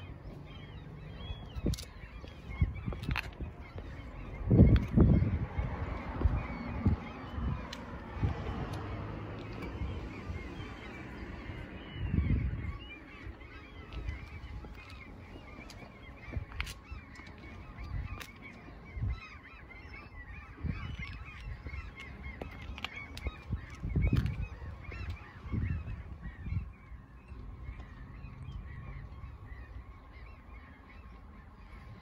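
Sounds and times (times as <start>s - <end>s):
flock of birds calling: 0.0s - 32.0s.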